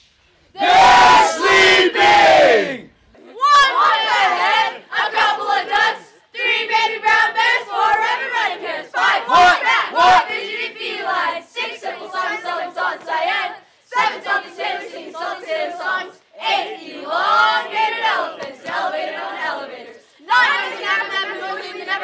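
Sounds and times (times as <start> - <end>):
group chanting and singing: 3.6 - 22.0.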